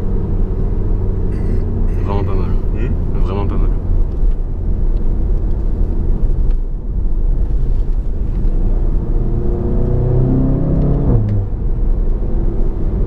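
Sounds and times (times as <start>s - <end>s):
car engine from inside cabin: 0.0s - 13.0s
road rumble: 0.0s - 13.0s.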